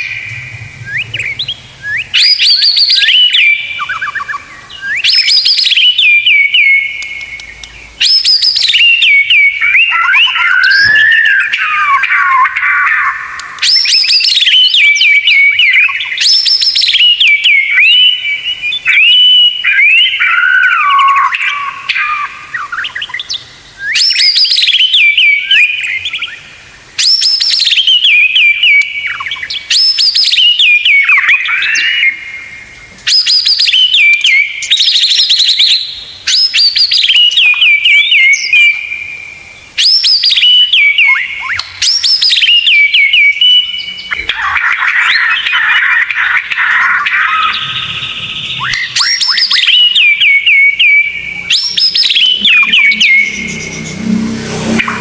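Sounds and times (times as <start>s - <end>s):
songbird singing phrases: 0.0s - 55.0s.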